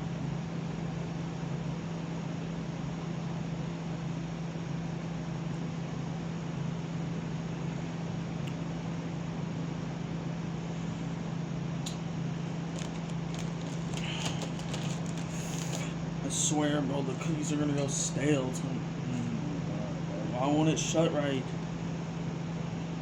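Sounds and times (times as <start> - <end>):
room noise hum and hiss: 0.0 - 23.0.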